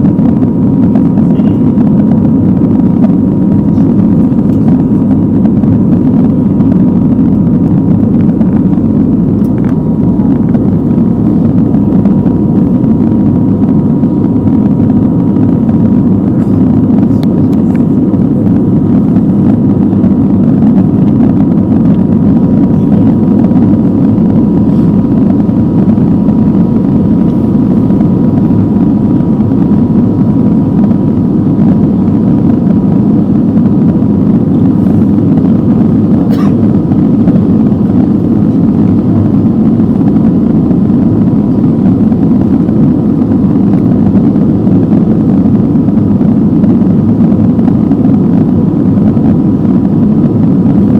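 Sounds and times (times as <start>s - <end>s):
airplane cabin engine rumble: 0.0s - 50.9s
faint engine whine: 0.0s - 50.9s.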